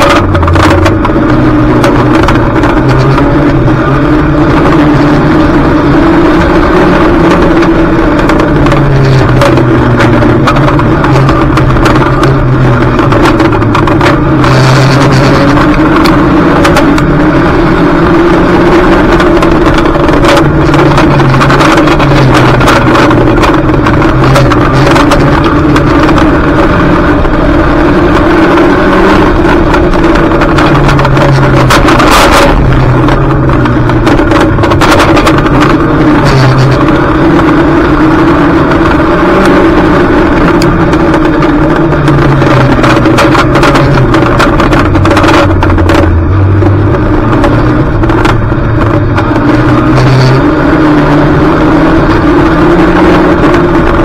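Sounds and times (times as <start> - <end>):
knocks and rattles: 0.0 - 54.0
race car engine revving: 0.0 - 54.0.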